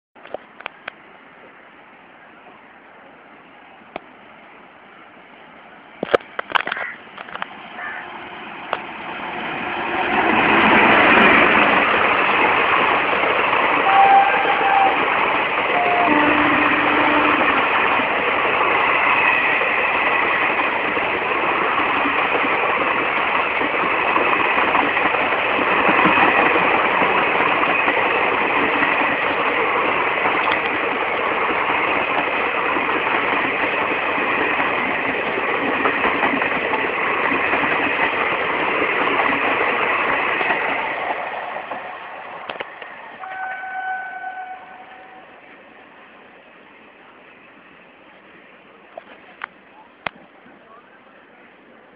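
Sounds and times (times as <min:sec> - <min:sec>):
train wheels rumbling on rails: 0:03.8 - 0:51.9.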